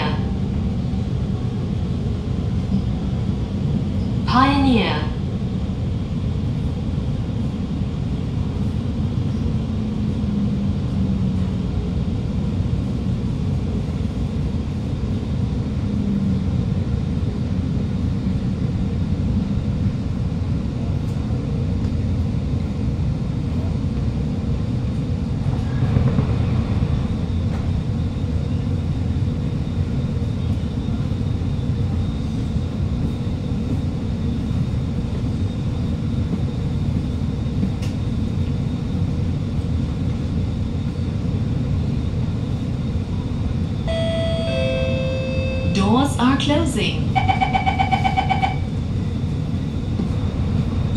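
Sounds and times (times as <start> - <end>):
metro train rumble inside carriage: 0.0 - 50.9.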